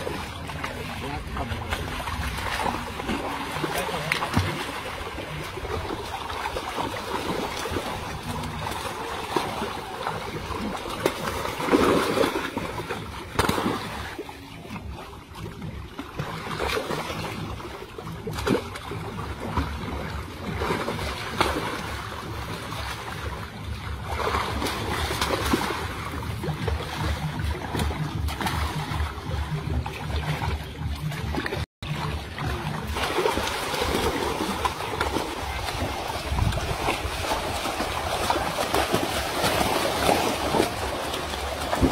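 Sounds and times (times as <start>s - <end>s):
fish thrashing in water: 0.0s - 41.9s
low throbbing sound: 0.0s - 41.9s
people wading through water: 0.0s - 41.9s.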